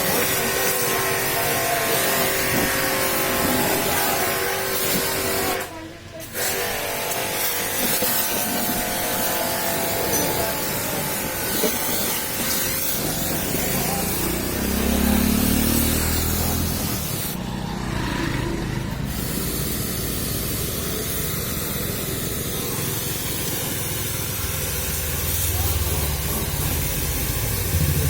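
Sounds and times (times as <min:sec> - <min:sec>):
water spray hissing: 0:00.0 - 0:17.4, 0:18.6 - 0:28.0.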